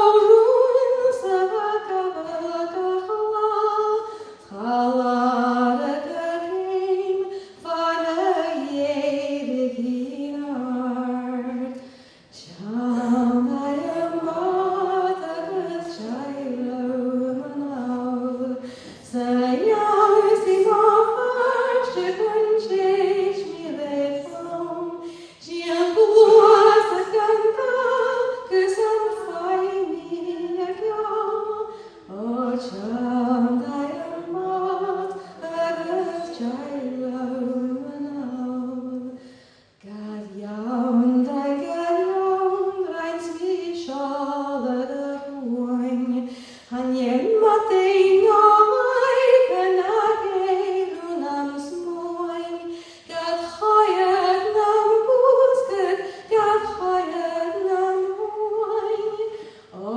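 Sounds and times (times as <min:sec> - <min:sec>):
woman singing unaccompanied: 0:00.0 - 0:11.8, 0:12.4 - 0:39.2, 0:39.8 - 0:59.9.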